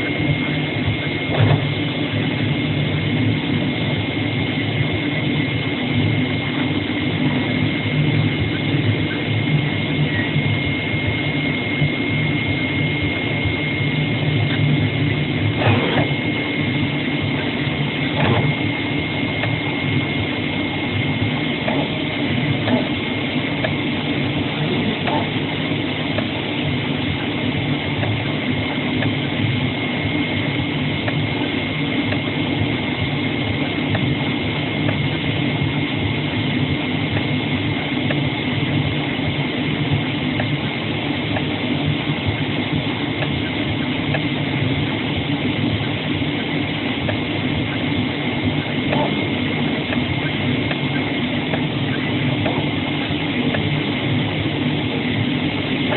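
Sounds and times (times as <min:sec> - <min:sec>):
cutting machine humming and whining: 0:00.0 - 0:55.9.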